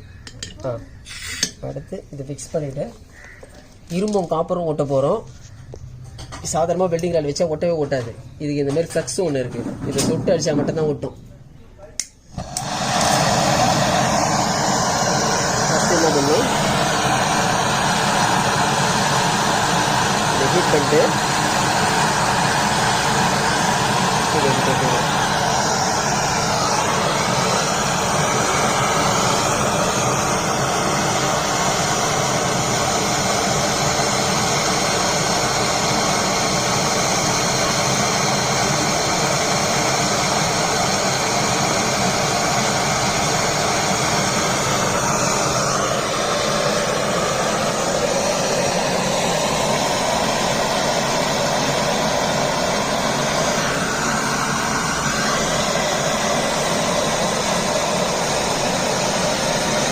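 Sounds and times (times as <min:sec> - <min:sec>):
gas torch flame rushing: 0:09.5 - 0:11.0, 0:12.2 - 0:59.9.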